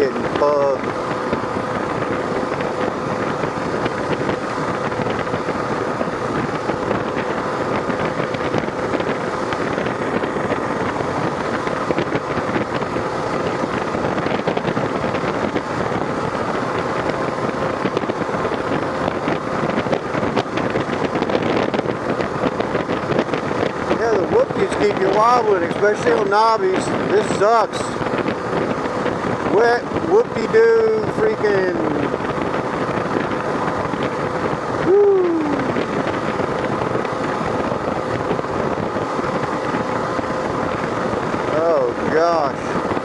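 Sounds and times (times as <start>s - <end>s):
motorcycle engine droning: 0.0s - 43.0s
tyres humming on road: 0.0s - 43.0s
wind rushing over microphone: 0.0s - 43.0s.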